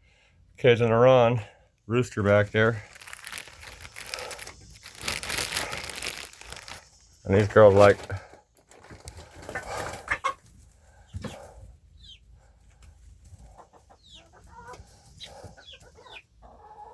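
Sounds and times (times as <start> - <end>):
hens clucking: 2.6 - 16.9.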